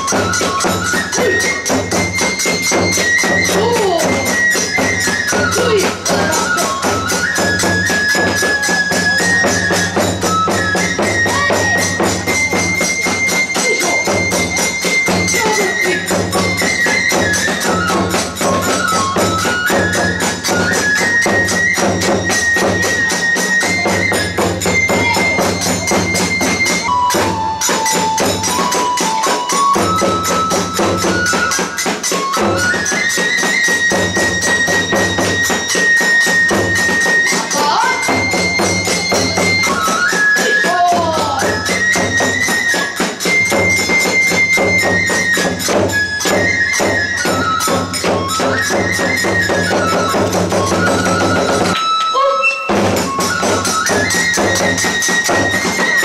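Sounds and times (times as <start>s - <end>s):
drums: 0.0s - 52.0s, 52.6s - 56.0s
bamboo flute melody: 0.0s - 56.0s
small hand cymbals: 0.0s - 56.0s.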